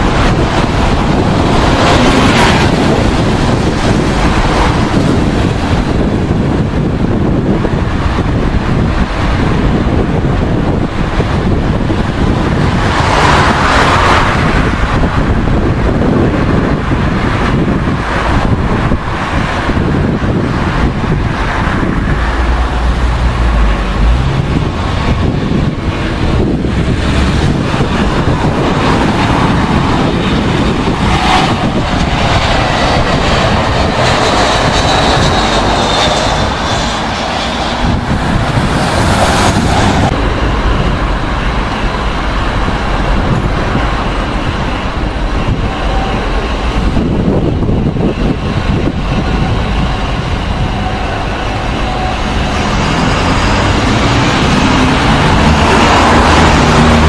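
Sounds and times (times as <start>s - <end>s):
jet airliner engine whine: 0.0s - 57.0s
wind rumbling on microphone: 0.0s - 57.0s.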